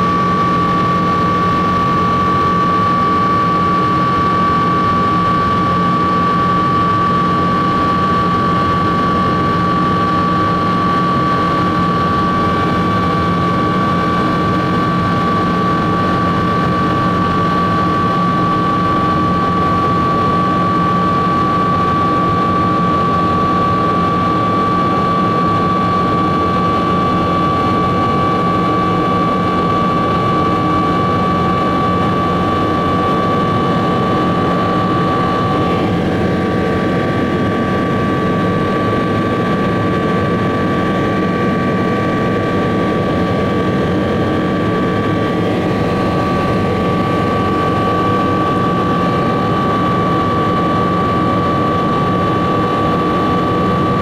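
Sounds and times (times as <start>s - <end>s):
engine and airflow drone: 0.0s - 54.0s
high whine: 0.0s - 54.0s.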